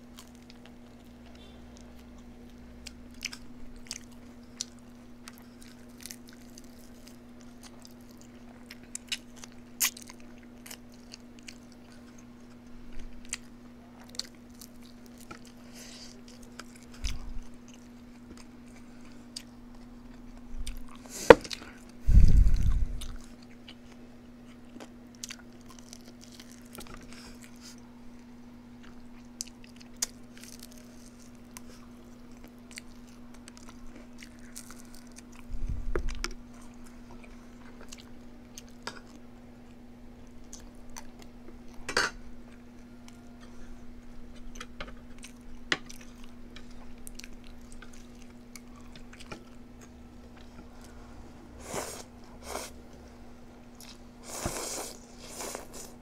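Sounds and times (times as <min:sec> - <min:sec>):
chewing and crunching: 0:00.0 - 0:51.0, 0:53.6 - 0:56.0
steady low hum: 0:00.0 - 0:56.0.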